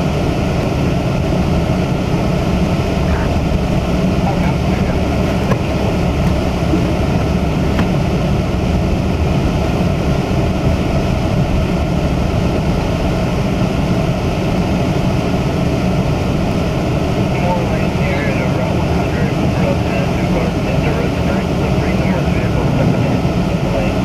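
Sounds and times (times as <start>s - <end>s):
car engine rumble: 0.0s - 24.0s
tyres on snowy road: 0.0s - 24.0s.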